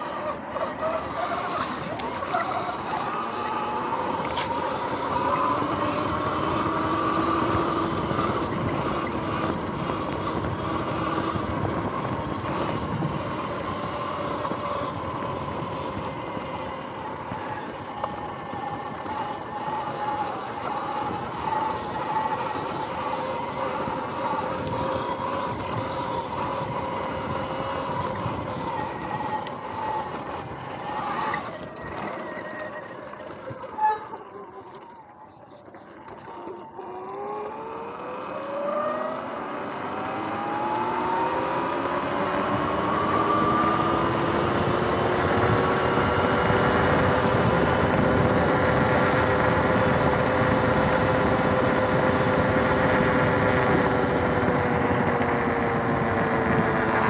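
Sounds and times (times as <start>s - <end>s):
electric dirt bike motor whine: 0.0s - 57.0s.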